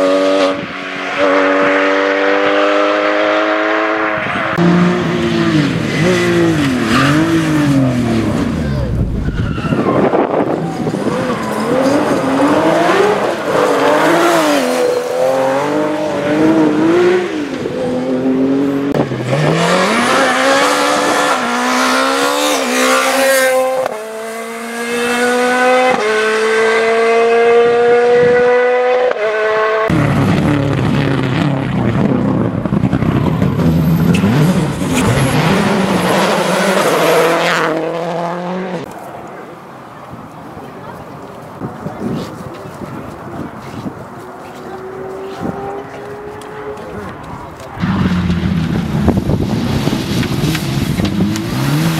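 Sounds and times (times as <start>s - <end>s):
rally car engines revving: 0.0s - 39.7s, 40.3s - 51.9s.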